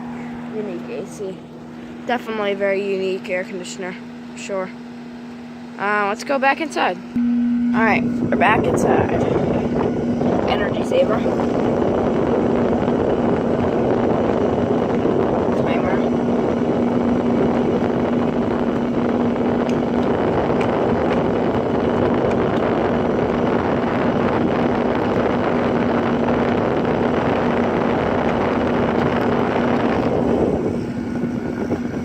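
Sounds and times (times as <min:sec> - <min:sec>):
air conditioner fan blowing: 0:00.0 - 0:32.0
motor hum: 0:00.0 - 0:32.0.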